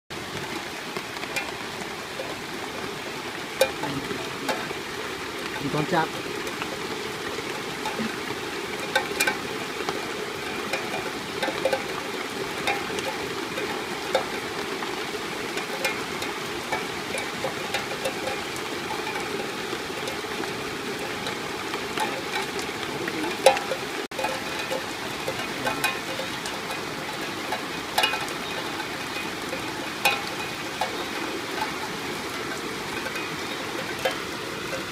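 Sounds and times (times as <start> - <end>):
rain on leaves: 0.1 - 34.9
sharp drips: 0.1 - 34.9.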